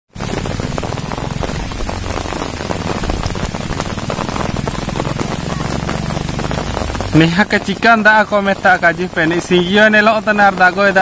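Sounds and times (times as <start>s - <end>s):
sharp raindrop hits: 0.1s - 11.0s
steady rain falling: 0.1s - 11.0s.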